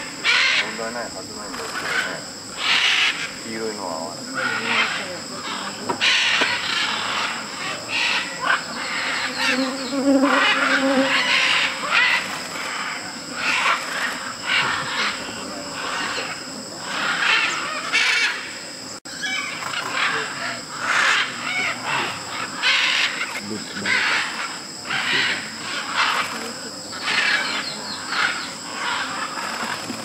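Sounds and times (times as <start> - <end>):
macaws squawking: 0.0 - 3.7, 4.3 - 18.5, 19.2 - 29.8
high insect buzz: 0.0 - 30.0.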